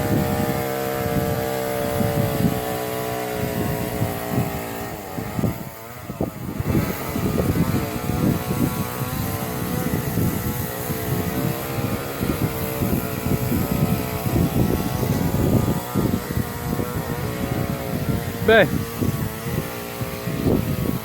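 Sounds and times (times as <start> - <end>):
engine running steadily: 0.0 - 21.0
wind buffeting microphone: 0.0 - 21.0.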